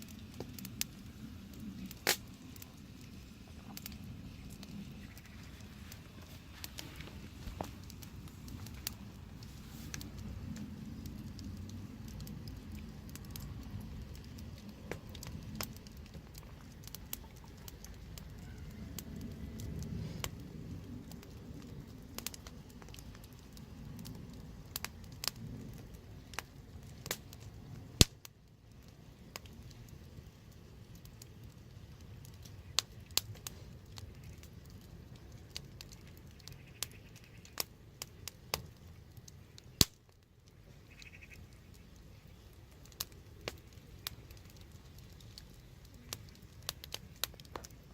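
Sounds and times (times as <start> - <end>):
fire crackles and pops: 0.0 - 47.9
wood fire burning: 0.0 - 47.9.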